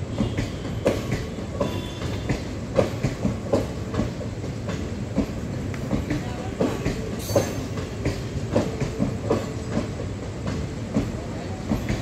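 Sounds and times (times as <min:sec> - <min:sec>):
train rumble: 0:00.0 - 0:12.0
train wheels clacking: 0:00.0 - 0:12.0.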